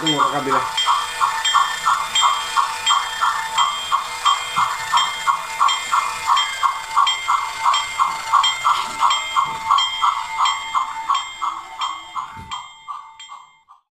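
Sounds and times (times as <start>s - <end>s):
steam locomotive chuffing: 0.0s - 13.6s
steady high tone: 0.0s - 13.7s.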